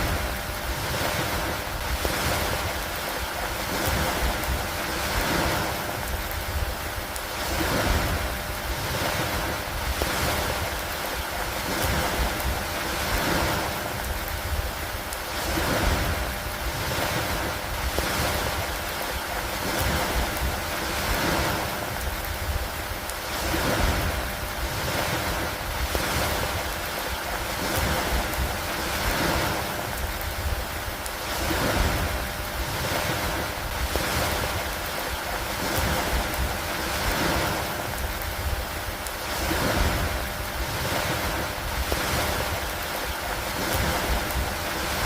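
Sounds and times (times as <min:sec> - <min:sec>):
lake waves: 0:00.0 - 0:45.0
low wind rumble: 0:00.0 - 0:45.0
steady rain: 0:00.0 - 0:45.0.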